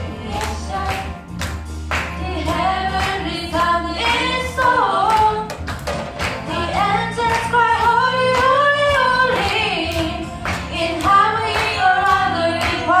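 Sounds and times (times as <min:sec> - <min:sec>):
women singing worship song: 0:00.0 - 0:01.3, 0:02.2 - 0:05.7, 0:06.4 - 0:13.0
instrumental accompaniment: 0:00.0 - 0:13.0.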